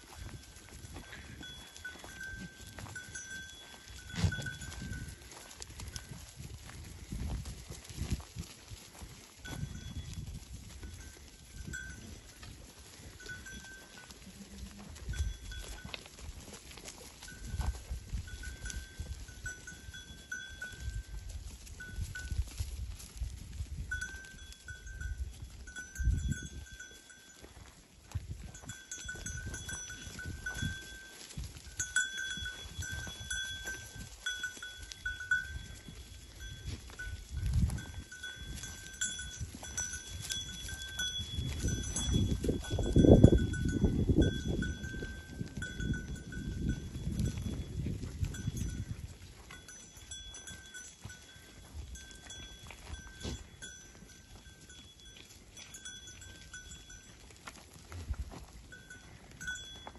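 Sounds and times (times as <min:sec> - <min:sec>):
goat bells clinking: 0:00.0 - 0:59.9.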